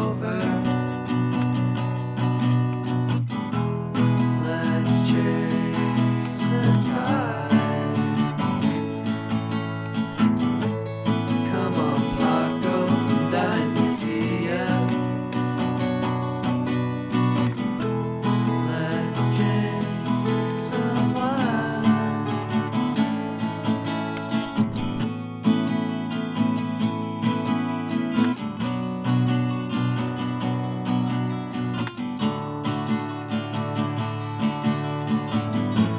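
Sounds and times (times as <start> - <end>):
acoustic guitar music: 0.0 - 35.9.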